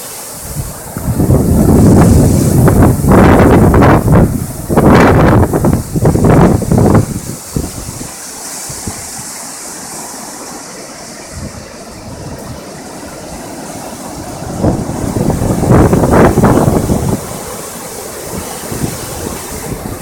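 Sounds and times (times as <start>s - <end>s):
floodwater rushing: 0.0s - 20.0s
wind buffeting microphone: 0.4s - 9.4s, 11.1s - 20.0s.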